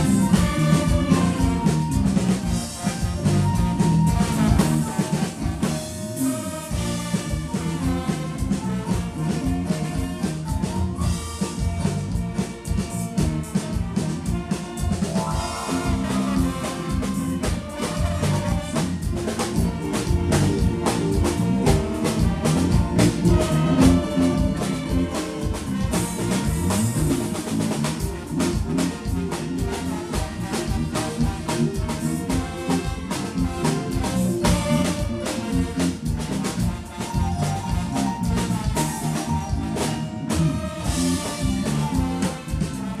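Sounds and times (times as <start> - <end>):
dance-band music: 0.0 - 43.0
drum kit beat: 0.0 - 43.0.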